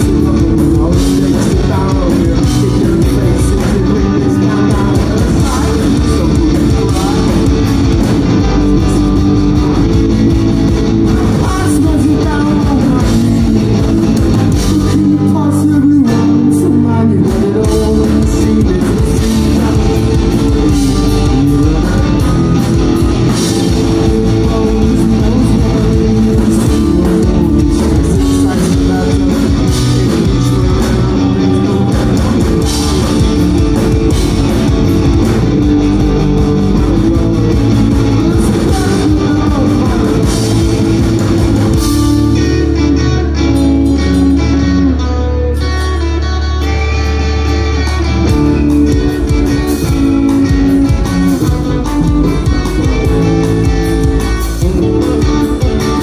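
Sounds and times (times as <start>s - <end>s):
person singing: 0.0s - 9.7s, 11.0s - 56.0s
bass guitar: 0.0s - 56.0s
drum kit: 0.0s - 56.0s
electric guitars: 0.0s - 56.0s.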